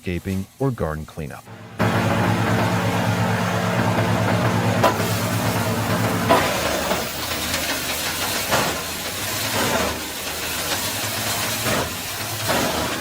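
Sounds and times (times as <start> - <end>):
wood chipper shredding wood: 1.5 - 13.0.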